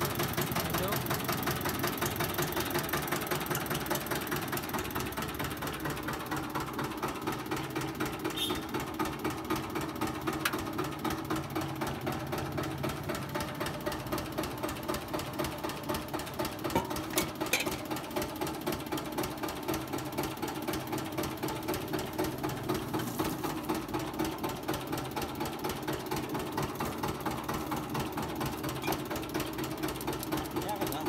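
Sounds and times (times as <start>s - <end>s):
juice crusher machine humming: 0.0s - 31.0s.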